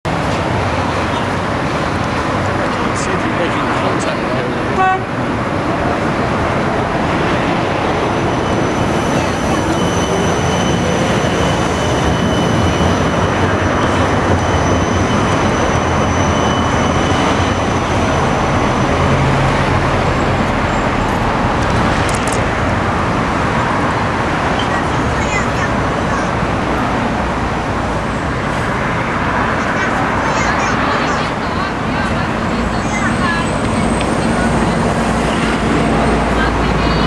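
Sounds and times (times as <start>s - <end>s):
electric tram rumbling: 0.1s - 37.0s.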